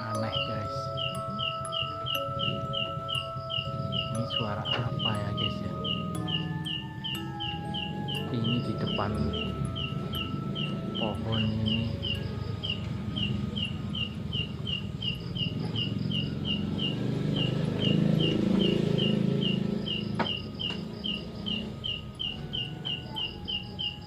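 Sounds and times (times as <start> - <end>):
insect chirping: 0.0 - 24.0.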